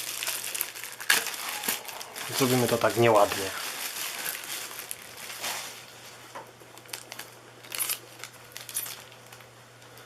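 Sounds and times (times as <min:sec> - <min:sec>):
plastic film tearing and crinkling: 0:00.0 - 0:06.0, 0:06.7 - 0:09.5.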